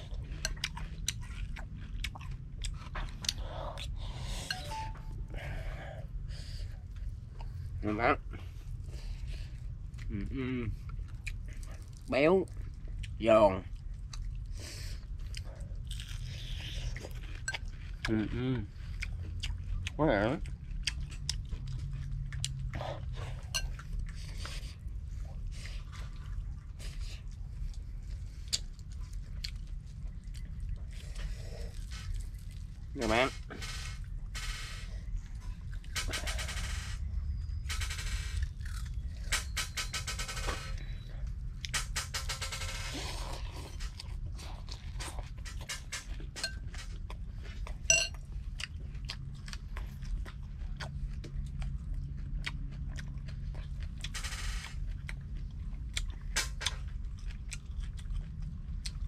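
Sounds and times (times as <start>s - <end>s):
person chewing crispy food: 0.0s - 5.6s, 8.4s - 34.2s, 37.7s - 39.5s, 40.7s - 59.0s
steady low hum: 0.0s - 59.0s.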